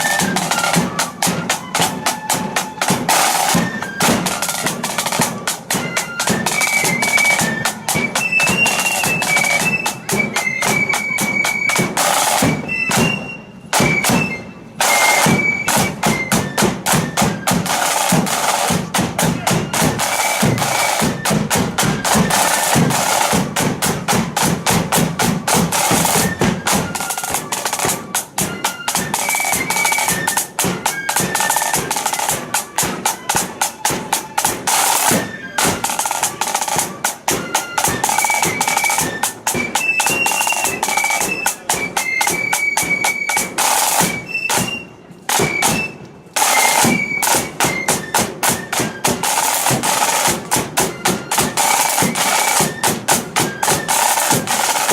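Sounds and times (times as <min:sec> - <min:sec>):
flutes playing melody: 0:00.0 - 0:54.9
snare drumming: 0:00.0 - 0:54.9.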